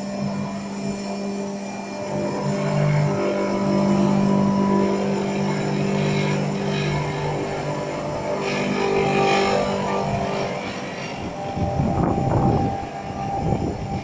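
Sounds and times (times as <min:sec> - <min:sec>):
hammer mill motor whirring: 0:00.0 - 0:14.0.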